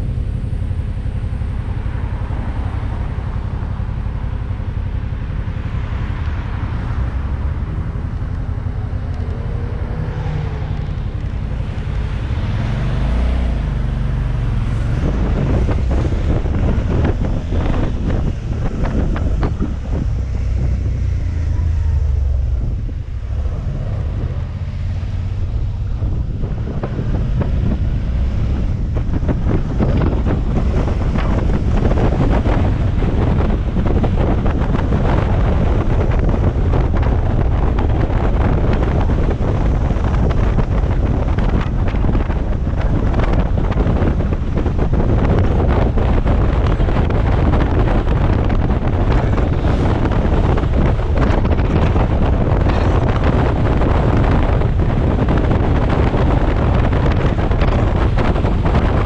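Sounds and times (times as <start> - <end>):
motorcycle engine rumble: 0.0 - 59.0
wind buffeting microphone: 0.0 - 59.0.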